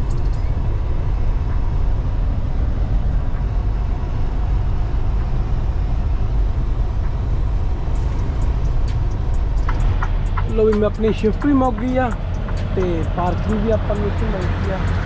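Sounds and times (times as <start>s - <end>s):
truck engine and road drone: 0.0s - 15.0s.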